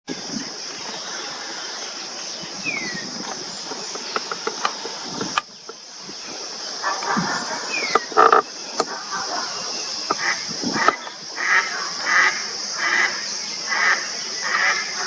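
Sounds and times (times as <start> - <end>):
steady high hiss: 0.1 - 15.0.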